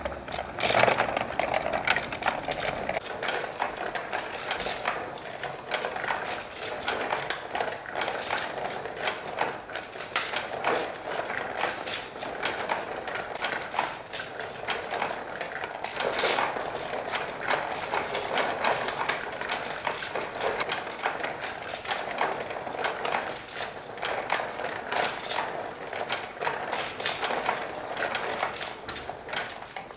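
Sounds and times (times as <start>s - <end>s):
wooden mechanism clicking and clattering: 0.0s - 29.9s.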